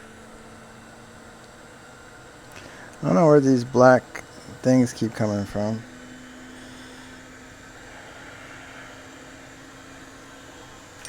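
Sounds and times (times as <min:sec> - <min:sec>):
fan-like hiss: 0:00.0 - 0:11.0
low hum: 0:00.0 - 0:11.0.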